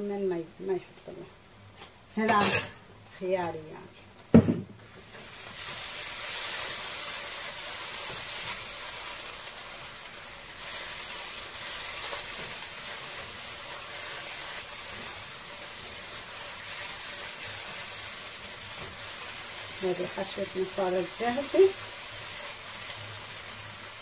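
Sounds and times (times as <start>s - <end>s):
sauce sizzling in a frying pan: 0.0s - 24.0s.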